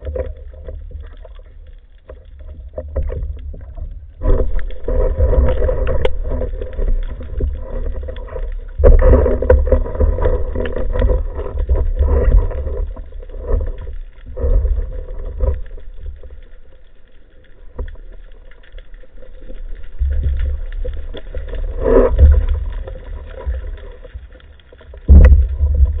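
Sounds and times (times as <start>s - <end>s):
muffled underwater rumble: 0.0s - 26.0s.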